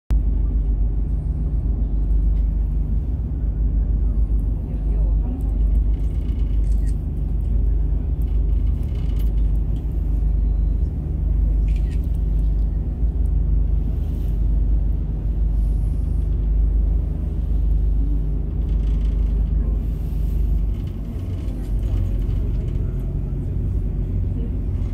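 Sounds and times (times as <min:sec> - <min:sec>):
boat engine rumbling: 0:00.1 - 0:24.9.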